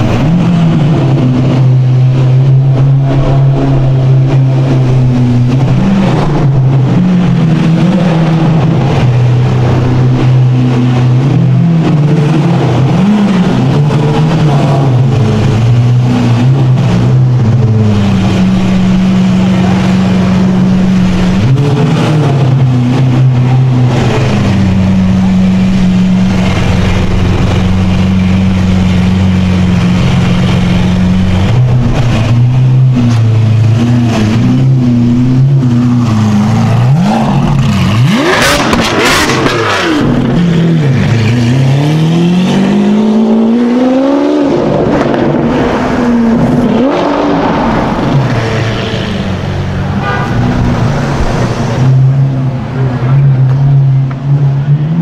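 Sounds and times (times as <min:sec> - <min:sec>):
sports car engine idling and revving: 0:00.0 - 0:55.0.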